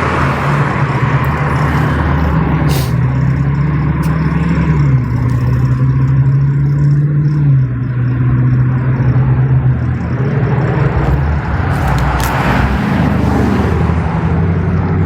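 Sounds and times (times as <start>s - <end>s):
road noise rumble: 0.0s - 15.0s
vehicle engine humming: 0.0s - 15.0s.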